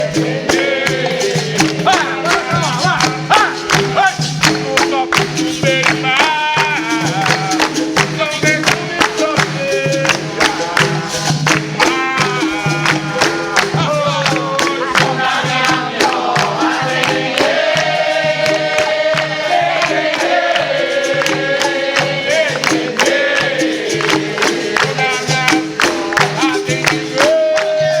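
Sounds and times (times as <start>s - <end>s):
person singing: 0.0s - 20.1s, 24.7s - 28.0s
pandeiro jingling beat: 0.0s - 28.0s.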